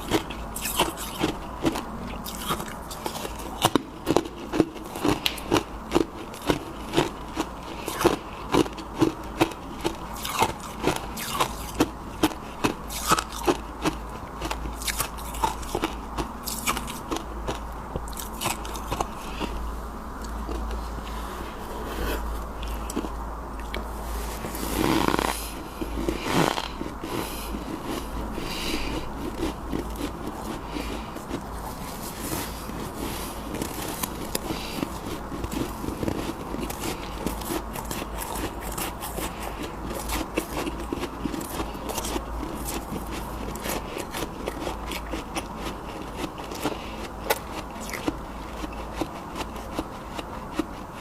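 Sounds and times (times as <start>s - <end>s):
chewing frost and ice crunches: 0.0s - 19.6s, 20.2s - 51.0s.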